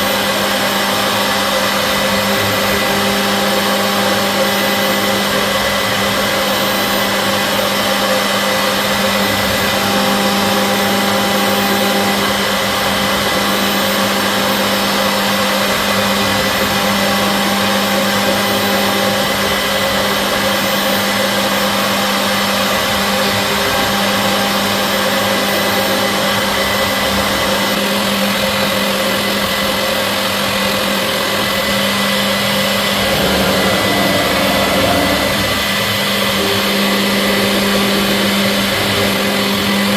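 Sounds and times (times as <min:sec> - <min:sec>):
machine motor hum with tones: 0:00.1 - 0:39.9.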